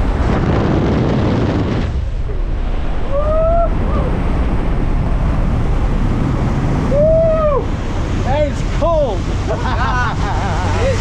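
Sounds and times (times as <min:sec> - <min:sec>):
wind roaring over microphone: 0:00.0 - 0:11.0.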